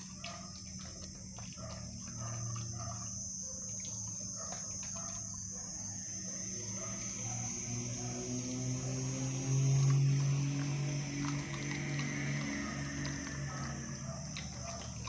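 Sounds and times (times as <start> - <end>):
low hum: 0.0 - 15.0
puppy chewing raw chicken: 0.0 - 15.0.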